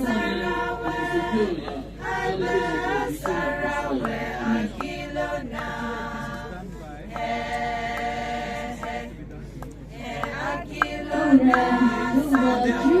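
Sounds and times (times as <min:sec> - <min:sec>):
group chant-like singing: 0:00.0 - 0:09.2, 0:09.9 - 0:13.0.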